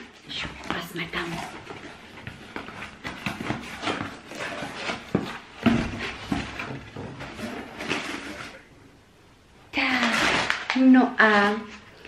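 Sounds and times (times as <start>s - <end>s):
packaging rustling and crinkling: 0.0s - 8.7s, 9.8s - 11.0s.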